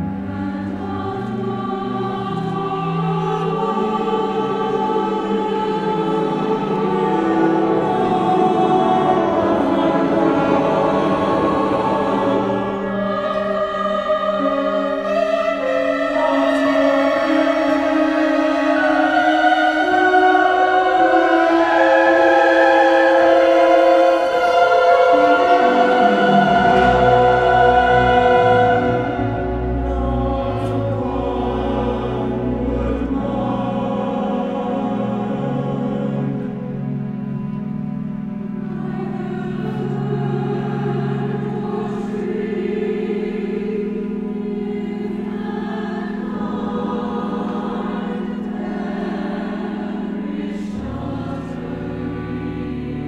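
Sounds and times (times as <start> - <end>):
choir singing: 0.0 - 53.0
piano: 0.0 - 53.0
strings: 0.0 - 53.0.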